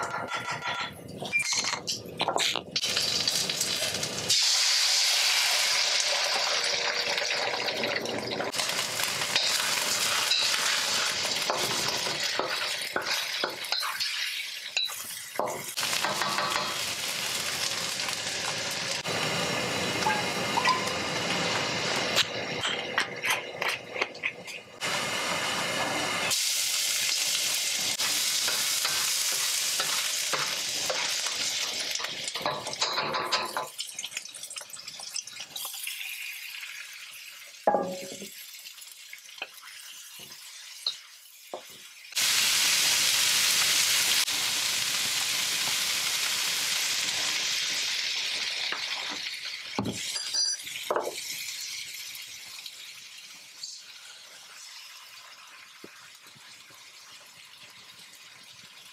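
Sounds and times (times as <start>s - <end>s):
food sizzling in a wok: 2.6s - 58.9s.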